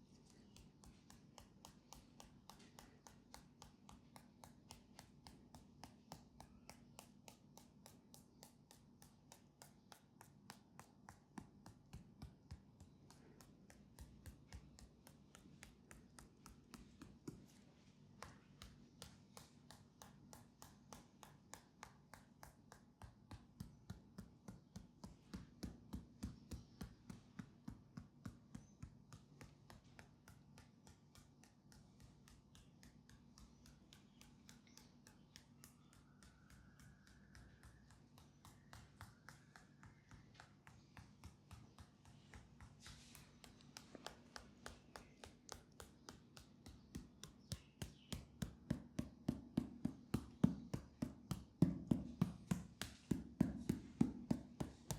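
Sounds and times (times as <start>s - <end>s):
hands tapping on leg: 0.0s - 54.9s.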